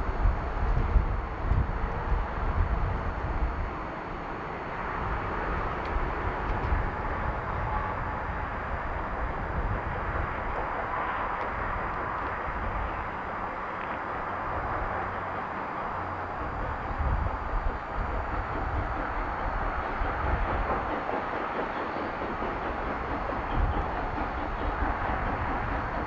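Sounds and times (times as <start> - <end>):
distant steam locomotive rushing: 0.0 - 26.0.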